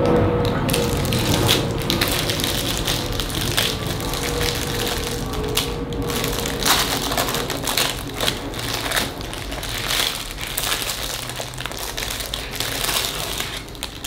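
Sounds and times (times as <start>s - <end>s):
plastic packaging crinkling: 0.1s - 14.0s.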